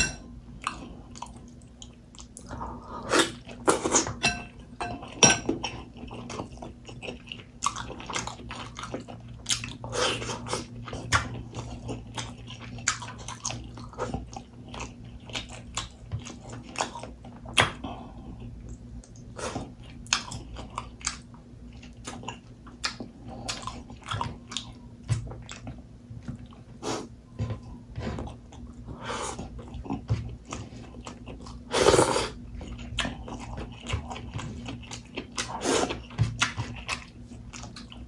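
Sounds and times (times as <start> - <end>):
person chewing food: 0.2 - 38.0.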